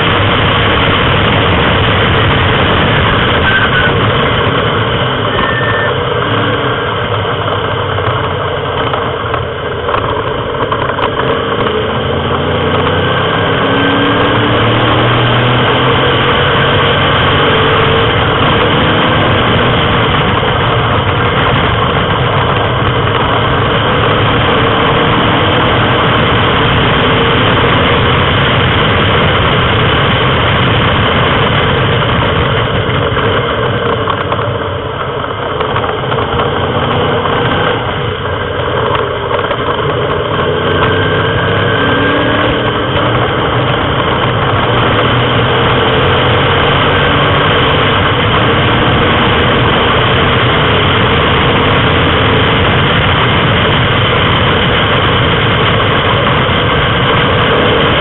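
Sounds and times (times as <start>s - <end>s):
sports car engine running hard: 0.0s - 58.0s.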